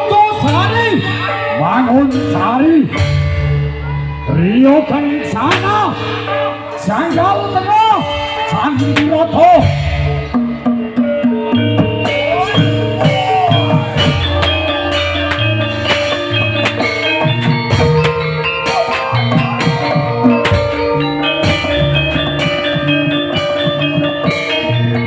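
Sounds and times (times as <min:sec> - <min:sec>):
drums playing steady beat: 0:00.0 - 0:03.9, 0:04.8 - 0:25.0
tuned metal percussion: 0:00.2 - 0:25.0.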